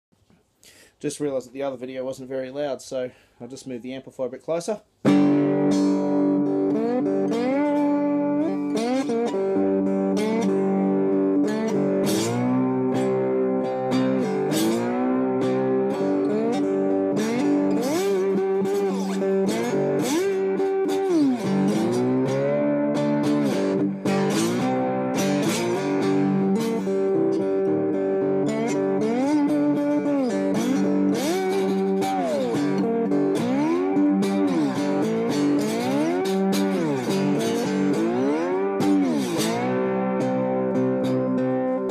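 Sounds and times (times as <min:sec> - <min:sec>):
slide guitar through amplifier: 0:05.0 - 0:41.9.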